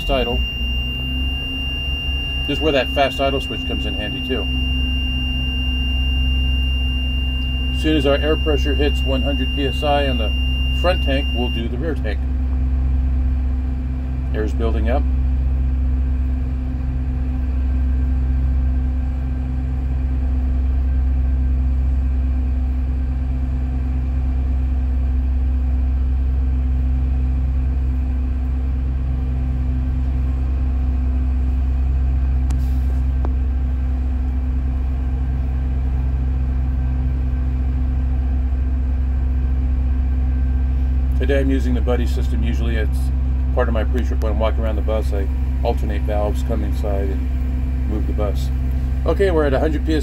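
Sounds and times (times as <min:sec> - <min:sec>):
air compressor running: 0:00.0 - 0:25.2, 0:26.2 - 0:50.0
bus engine idling: 0:00.0 - 0:50.0.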